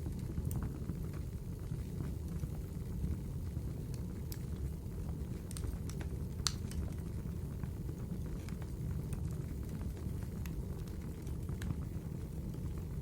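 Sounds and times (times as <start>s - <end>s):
low rumble of fire: 0.0s - 13.0s
wood fire crackling and popping: 0.0s - 13.0s.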